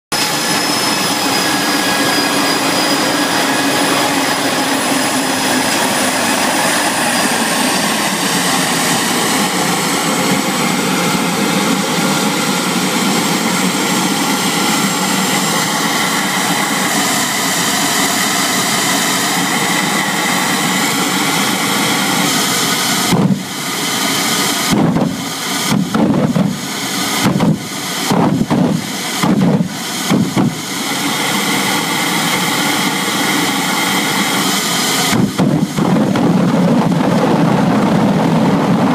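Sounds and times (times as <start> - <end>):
jet engines rushing and whining: 0.1 - 38.9.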